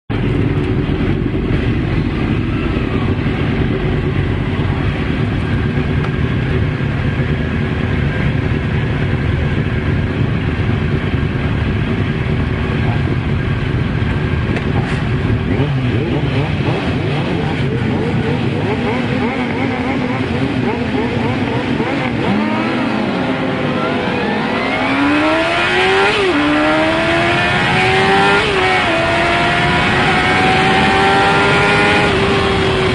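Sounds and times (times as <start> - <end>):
motorcycle engines revving: 0.1 - 32.9.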